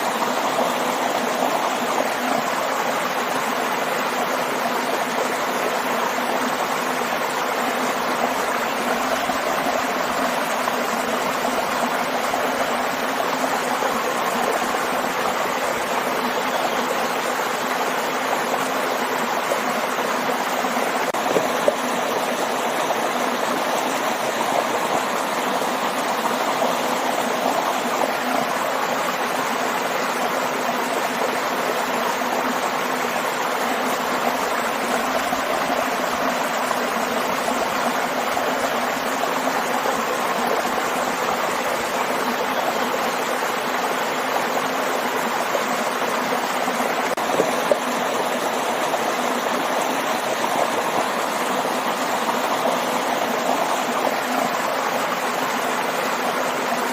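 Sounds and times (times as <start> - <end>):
waterfall and stream rushing: 0.0 - 56.9.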